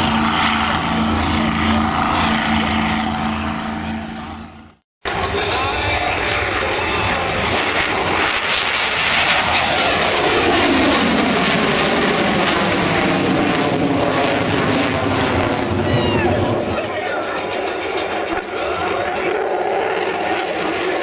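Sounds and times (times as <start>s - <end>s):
fighter jet taking off: 0.0s - 21.0s.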